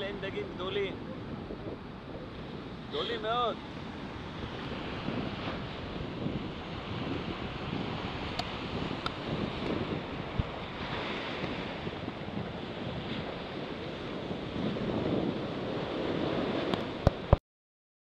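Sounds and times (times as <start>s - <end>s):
surf breaking on beach: 0.0s - 17.4s
wind buffeting microphone: 0.0s - 17.4s.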